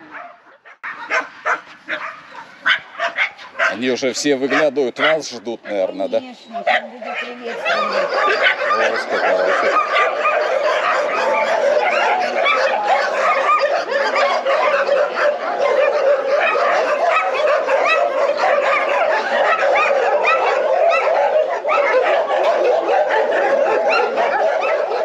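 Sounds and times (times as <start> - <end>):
many dogs barking: 0.0 - 25.0.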